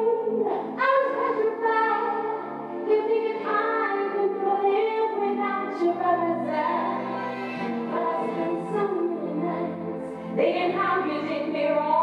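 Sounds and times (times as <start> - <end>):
women singing: 0.0 - 12.0.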